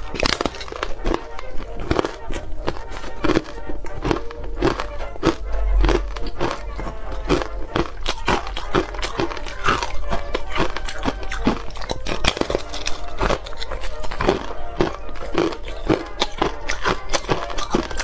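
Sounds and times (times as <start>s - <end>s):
ice crunching being chewed: 0.0s - 18.0s.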